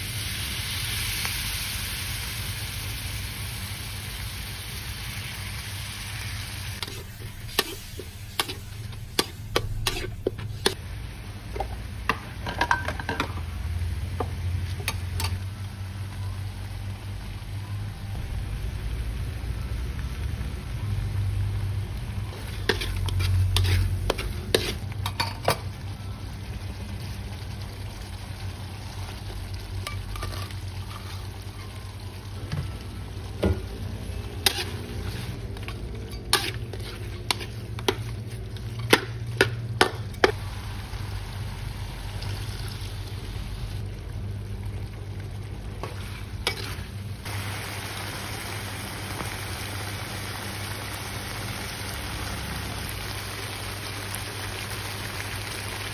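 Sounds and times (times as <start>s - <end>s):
fish frying in a wok: 0.0s - 55.9s.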